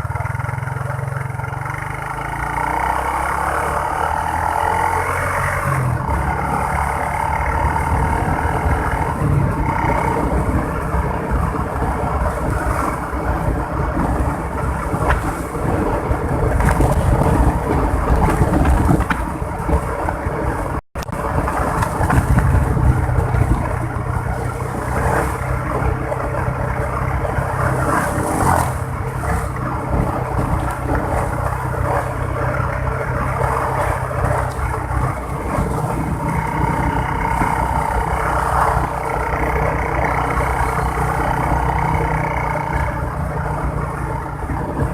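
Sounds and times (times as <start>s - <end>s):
motorbike engine running: 0.0s - 44.9s
road and wind noise: 0.0s - 44.9s.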